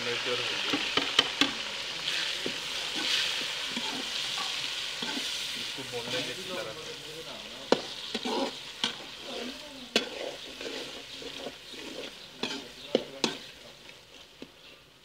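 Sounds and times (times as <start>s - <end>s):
masala sizzling in a pan: 0.0s - 15.0s.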